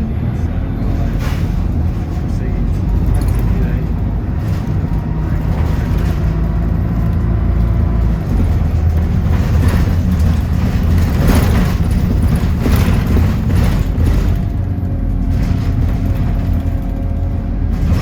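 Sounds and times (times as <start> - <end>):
bus engine drone: 0.0 - 18.0
short rattling knocks: 1.4 - 18.0.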